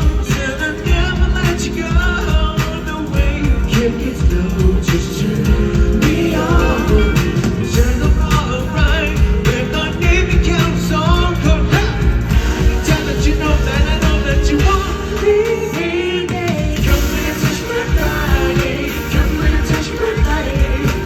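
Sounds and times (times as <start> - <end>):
live pop-rock band: 0.0 - 21.0
man singing: 0.0 - 21.0.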